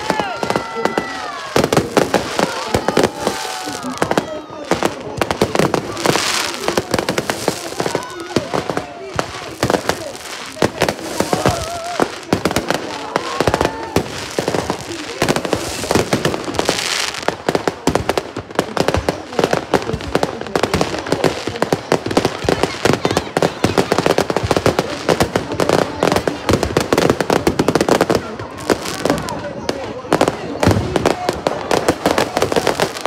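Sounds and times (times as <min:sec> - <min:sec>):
fireworks bangs and crackles: 0:00.0 - 0:33.0
hissing crackle of fireworks: 0:00.0 - 0:33.0.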